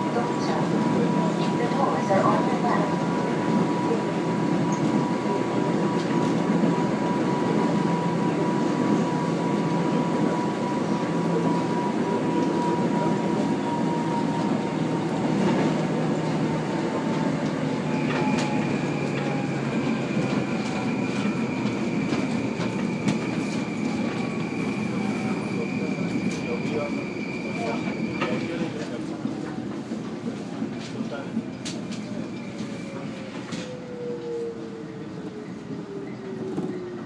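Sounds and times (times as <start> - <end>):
train rumble with thin tone: 0.0 - 37.0.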